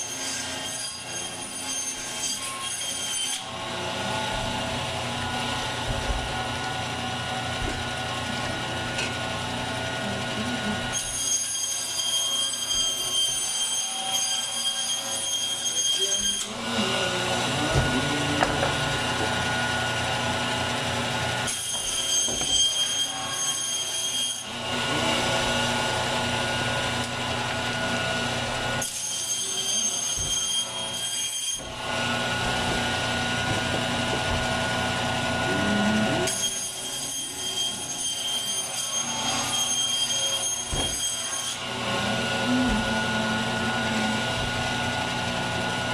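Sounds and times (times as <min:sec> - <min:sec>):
bandsaw blade grinding through meat: 0:00.0 - 0:07.7, 0:10.3 - 0:19.8, 0:21.4 - 0:25.8, 0:28.5 - 0:45.9
meat bandsaw whining: 0:00.0 - 0:45.9.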